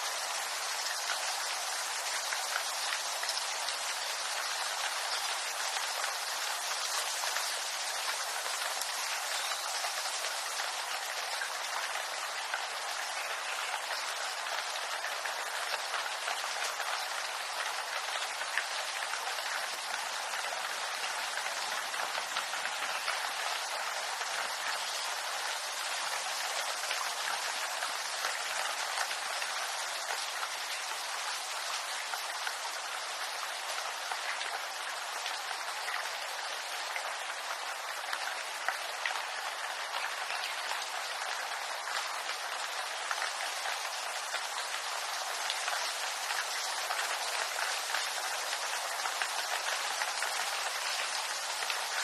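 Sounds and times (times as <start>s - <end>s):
rain on leaves: 0.0s - 52.0s.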